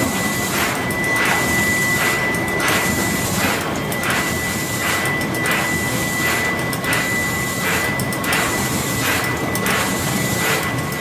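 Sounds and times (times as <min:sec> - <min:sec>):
thin high whine: 0:00.0 - 0:09.3
machinery hum: 0:00.0 - 0:11.0.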